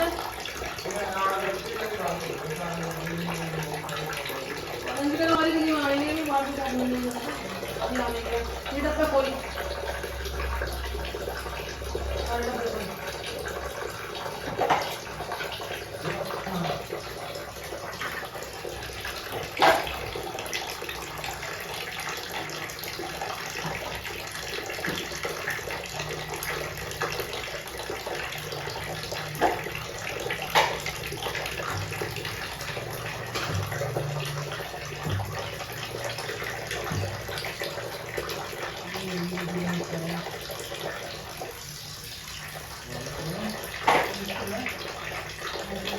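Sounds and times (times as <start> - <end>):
tap water running: 0.0 - 45.9.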